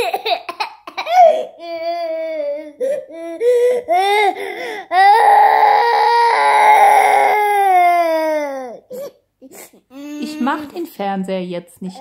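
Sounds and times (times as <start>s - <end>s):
toddler crying: 0.0s - 10.7s.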